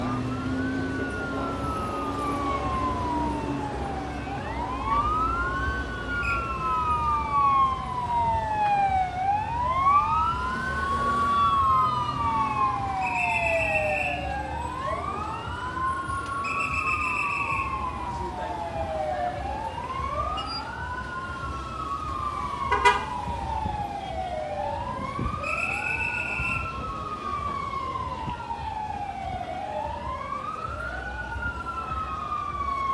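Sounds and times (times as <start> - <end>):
fire engine wail sirens: 0.0 - 32.9.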